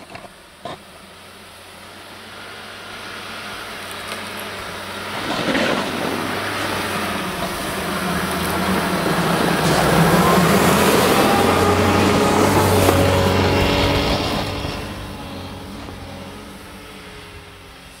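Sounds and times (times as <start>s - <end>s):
car engine driving: 0.0s - 18.0s
tyres on packed snow: 0.0s - 18.0s.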